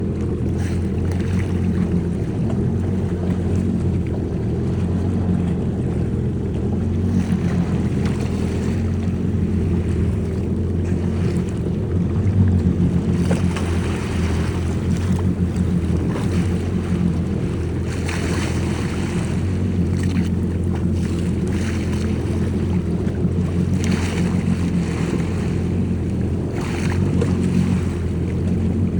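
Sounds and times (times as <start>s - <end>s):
jet ski engine droning: 0.0s - 28.9s.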